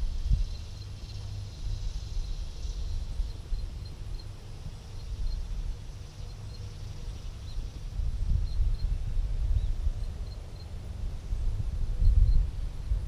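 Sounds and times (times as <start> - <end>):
wind buffeting microphone: 0.0 - 5.9, 7.2 - 13.0
faint high chirping: 0.2 - 10.8.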